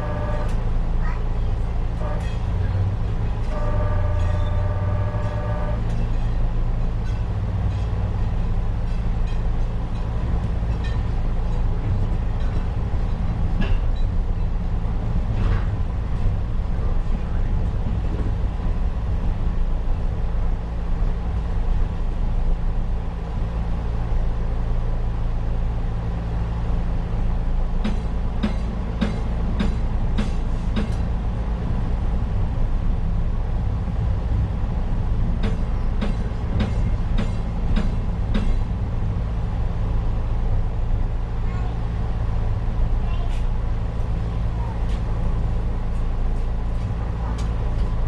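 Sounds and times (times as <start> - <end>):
train low hum: 0.0 - 48.0.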